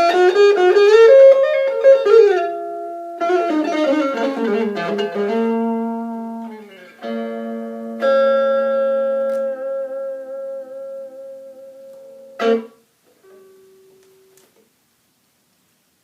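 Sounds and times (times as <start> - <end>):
electric guitar chord strummed: 0.0 - 14.4
electric guitar single note: 0.0 - 14.4.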